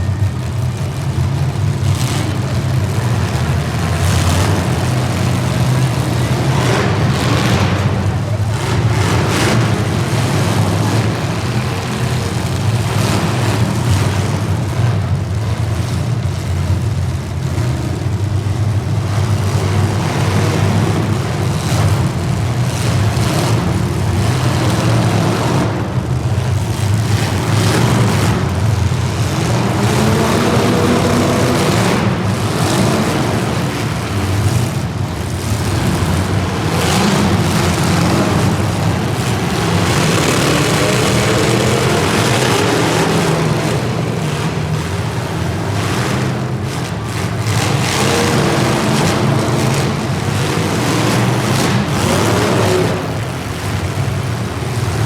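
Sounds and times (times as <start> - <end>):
vehicle engines revving: 0.0 - 55.0.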